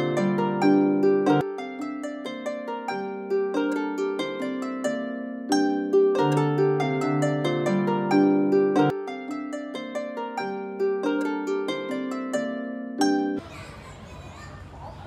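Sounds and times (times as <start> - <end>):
plucked string melody: 0.0 - 13.4.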